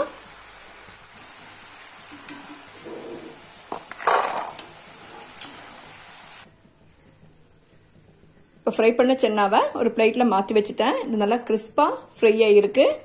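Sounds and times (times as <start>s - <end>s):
hot oil sizzling: 0.0s - 12.8s.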